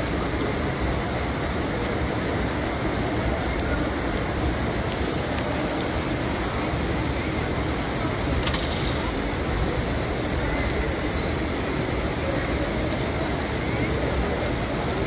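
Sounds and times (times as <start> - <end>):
sharp rain ticks: 0.0 - 15.0
steady rain hiss: 0.0 - 15.0.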